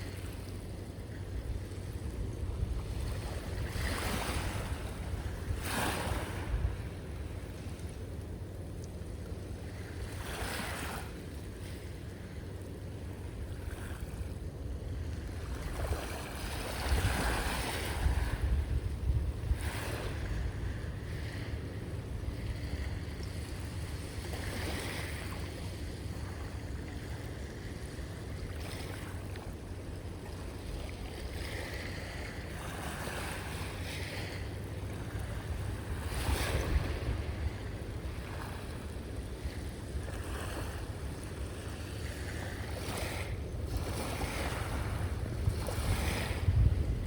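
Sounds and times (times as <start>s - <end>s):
ocean waves breaking: 0.0s - 8.4s, 9.0s - 47.0s
wind rumbling on microphone: 1.3s - 7.8s, 13.3s - 29.3s, 30.3s - 47.0s.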